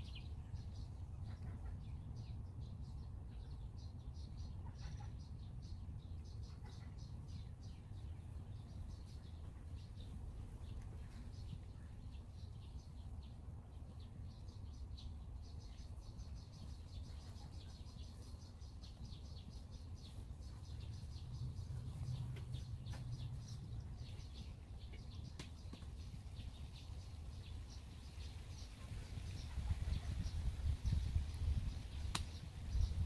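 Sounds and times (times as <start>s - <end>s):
low outdoor rumble: 0.0s - 33.0s
small bird chirping: 0.0s - 33.0s.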